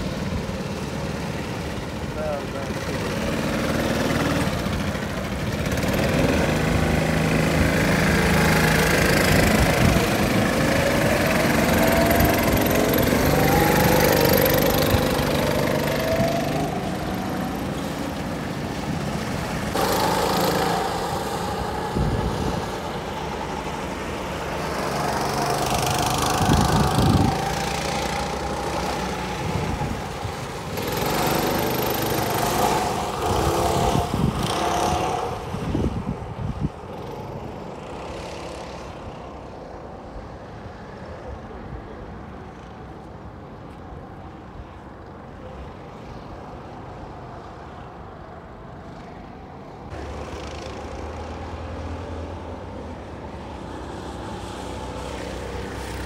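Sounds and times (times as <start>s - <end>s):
go-kart engines: 0.0s - 56.0s.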